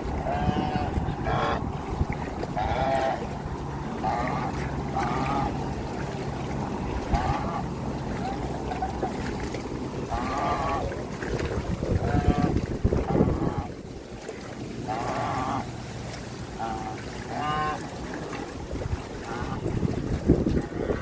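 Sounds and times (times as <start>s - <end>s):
wind on microphone: 0.0s - 15.4s, 17.5s - 21.0s
floodwater flowing: 0.0s - 21.0s.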